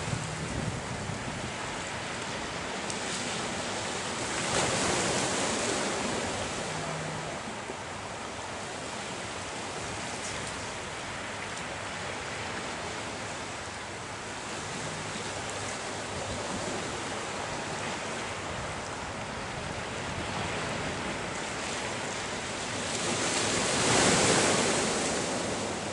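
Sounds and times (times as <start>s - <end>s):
small waves washing on shore: 0.0s - 25.9s.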